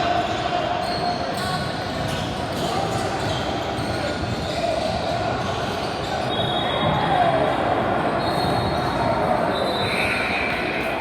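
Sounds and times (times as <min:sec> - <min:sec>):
voices and court noise: 0:00.0 - 0:11.0.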